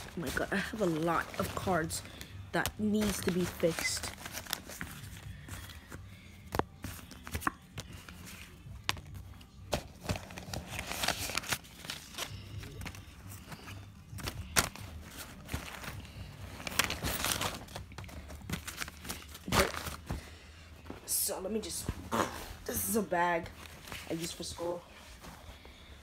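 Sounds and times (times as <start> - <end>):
backpack rustling: 0.0 - 22.1.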